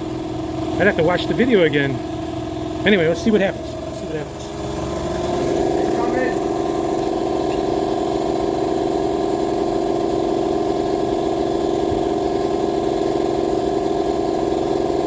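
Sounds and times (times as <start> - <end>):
air compressor drone: 0.0 - 15.0.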